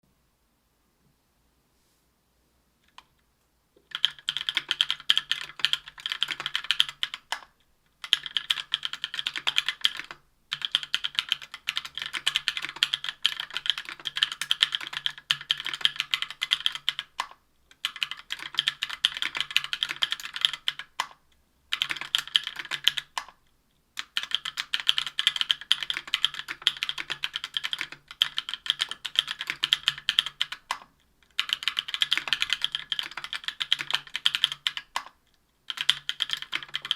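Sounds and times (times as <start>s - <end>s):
mechanical keyboard typing: 3.9s - 23.4s, 24.0s - 36.9s.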